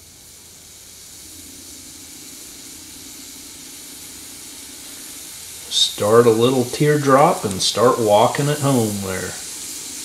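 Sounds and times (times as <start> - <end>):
welding torch flame hissing: 0.0 - 10.0.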